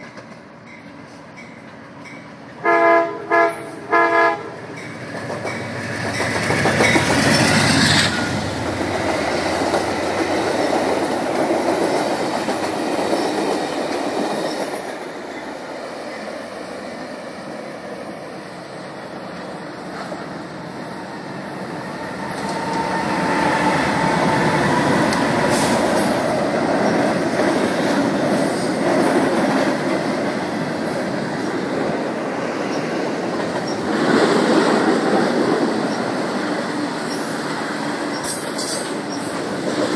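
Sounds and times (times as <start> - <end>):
train wheels rumbling over rails: 0.0 - 39.9.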